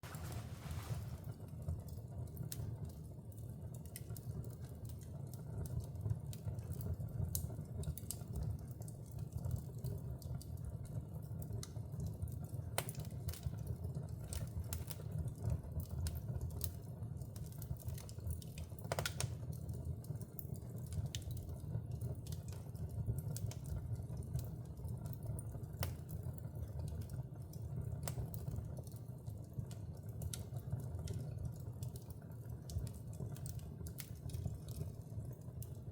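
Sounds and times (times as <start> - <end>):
low rumble of flames: 0.0 - 35.9
wood fire crackling and popping: 0.0 - 35.9.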